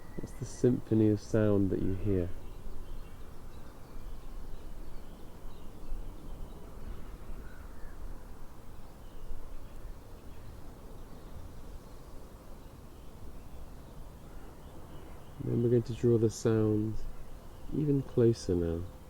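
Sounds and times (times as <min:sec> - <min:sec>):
faint bird calls: 0:01.4 - 0:08.4, 0:09.0 - 0:19.0.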